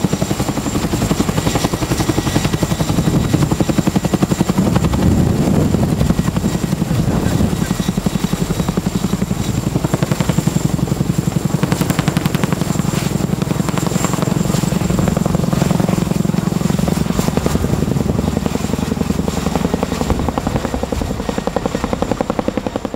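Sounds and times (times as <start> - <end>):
helicopter rotors beating: 0.0 - 22.9.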